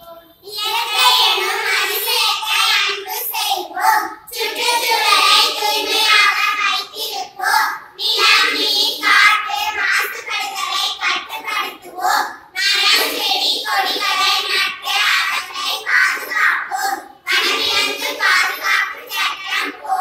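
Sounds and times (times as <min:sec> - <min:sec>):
young children singing in unison: 0:00.0 - 0:20.0.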